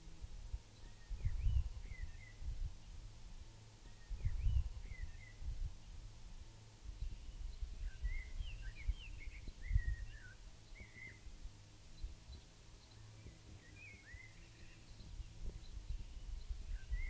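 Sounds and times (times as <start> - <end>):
small birds chirping: 0.0 - 17.0
uneven low rumble: 0.0 - 17.0.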